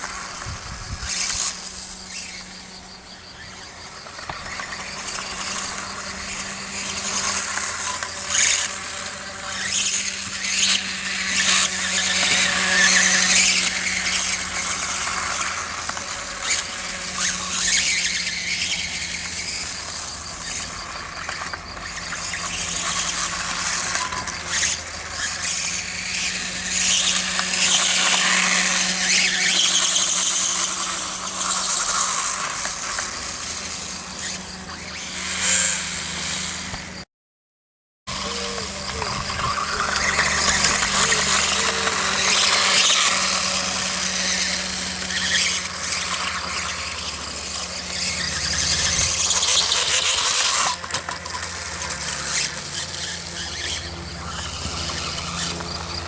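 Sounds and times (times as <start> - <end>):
high-pitched electric motor whine: 0.0 - 37.1, 38.1 - 56.0.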